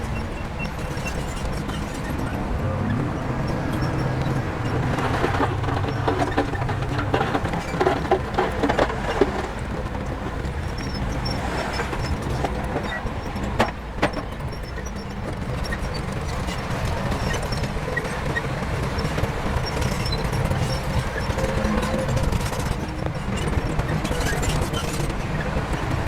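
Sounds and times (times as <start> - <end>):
metal clanking and knocking: 0.0 - 25.3
diesel machinery rumbling: 0.0 - 26.0.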